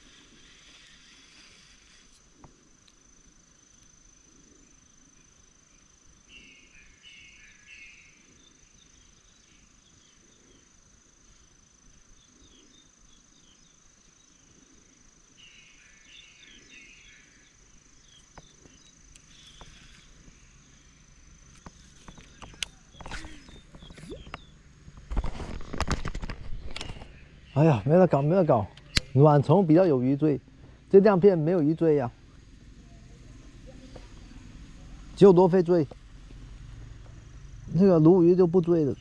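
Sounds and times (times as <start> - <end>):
high-pitched insect drone: 0.0 - 39.0
insect chirping: 0.0 - 39.0.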